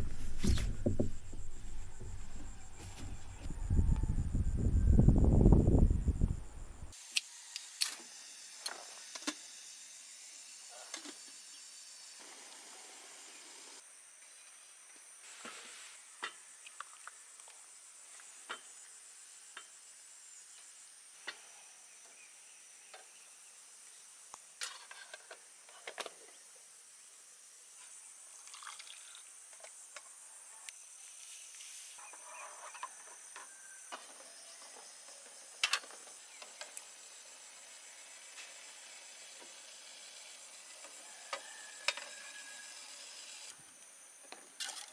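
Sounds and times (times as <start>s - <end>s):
steady high-pitched hiss: 0.0s - 28.4s, 29.0s - 44.6s.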